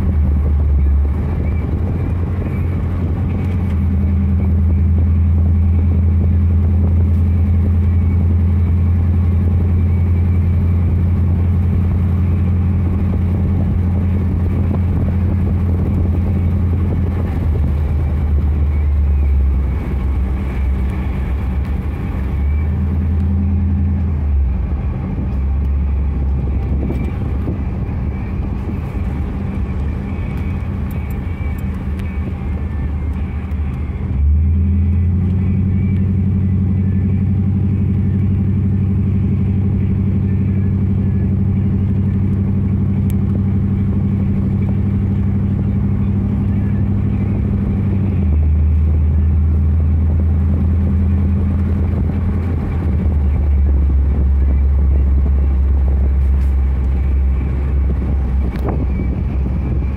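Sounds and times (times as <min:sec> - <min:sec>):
pickup engine droning: 0:00.0 - 0:59.9.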